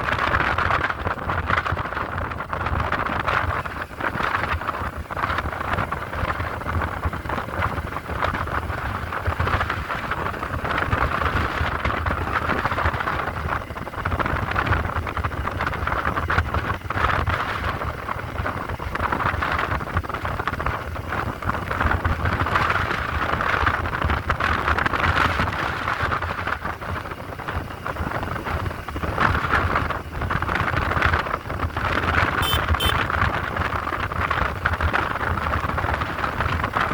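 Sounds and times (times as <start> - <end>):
motorcycle engine and road rumble: 0.0 - 36.9
wind rushing over microphone: 0.0 - 36.9.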